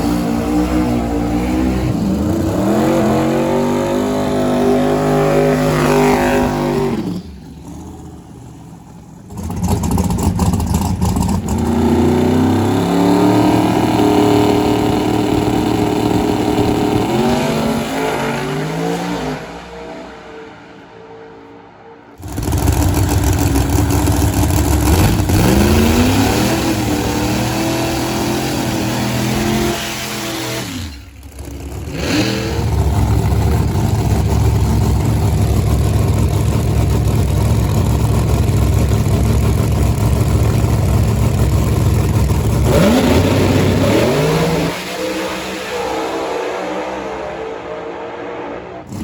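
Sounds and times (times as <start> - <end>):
drag racing car engine revving: 0.0 - 49.0.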